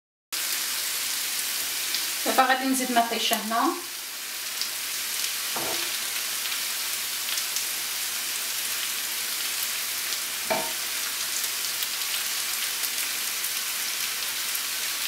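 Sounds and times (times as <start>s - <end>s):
vegetables sizzling in a pan: 0.4s - 15.0s.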